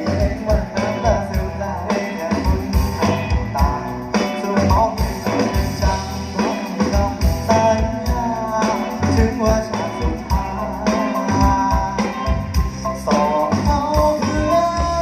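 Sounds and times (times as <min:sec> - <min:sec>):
bass: 0:00.0 - 0:15.0
drums: 0:00.0 - 0:15.0
live band playing: 0:00.0 - 0:15.0
sliding melodic lead line: 0:00.0 - 0:15.0.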